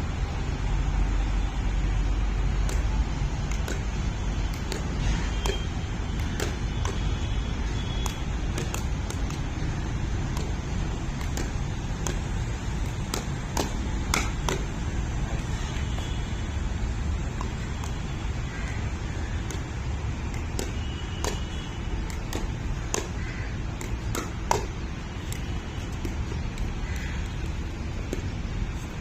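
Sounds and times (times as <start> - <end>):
paddles hitting plastic ball: 2.6 - 29.0.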